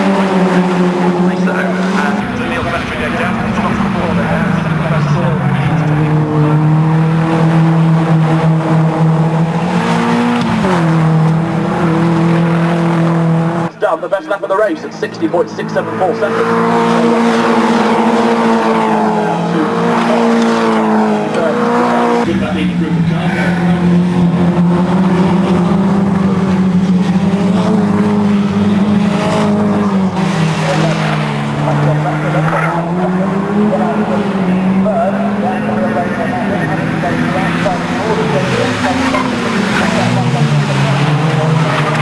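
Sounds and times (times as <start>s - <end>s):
racing car engine revving: 0.0s - 13.8s, 14.6s - 42.0s.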